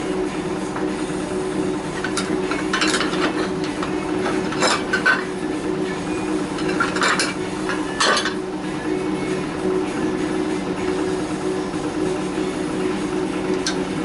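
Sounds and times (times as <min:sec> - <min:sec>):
lathe motor humming: 0:00.0 - 0:14.0.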